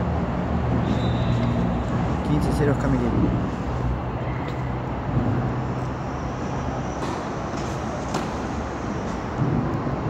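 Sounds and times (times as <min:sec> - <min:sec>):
low indoor hall rumble: 0:00.0 - 0:10.0.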